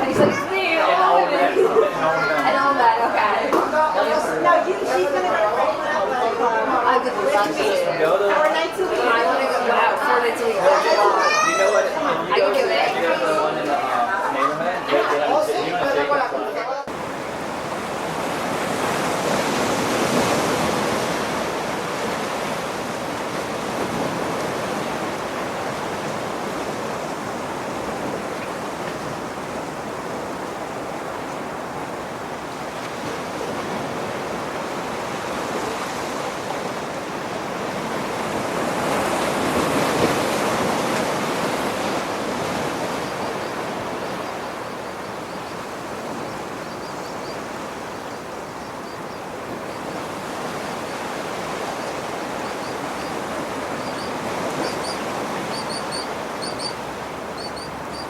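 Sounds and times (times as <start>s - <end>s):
ocean waves washing in: 0.0s - 16.2s, 16.9s - 58.0s.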